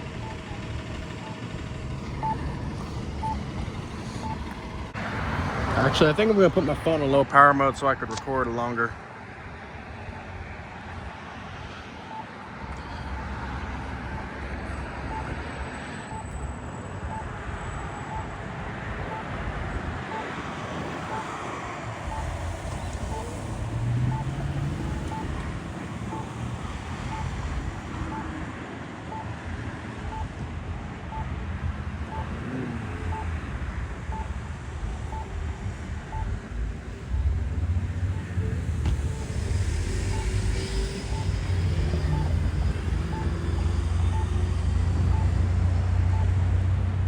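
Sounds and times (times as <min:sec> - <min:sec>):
vehicle engines passing: 0:00.0 - 0:47.0.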